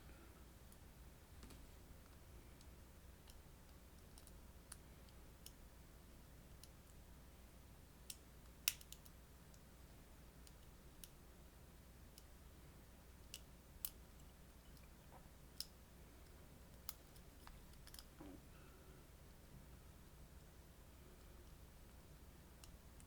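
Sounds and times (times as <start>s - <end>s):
faint low room hum: 0.0s - 23.0s.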